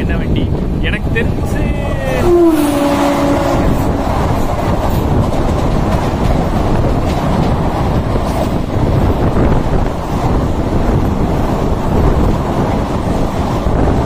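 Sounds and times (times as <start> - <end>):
train rushing past: 0.0 - 14.0
wheels clattering over rails: 0.5 - 14.0.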